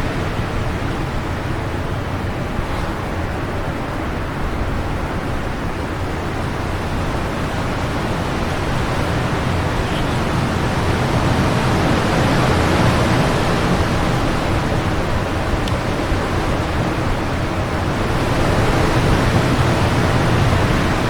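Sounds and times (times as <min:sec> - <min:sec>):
wind blowing: 0:00.0 - 0:21.0.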